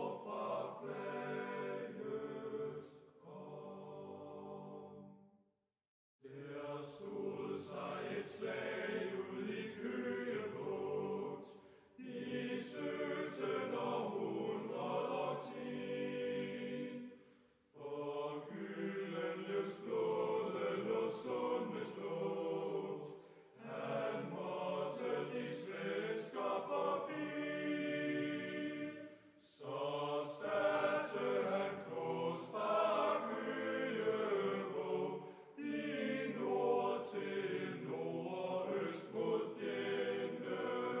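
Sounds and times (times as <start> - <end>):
choir singing chant-like melody: 0.0 - 5.3, 6.2 - 41.0.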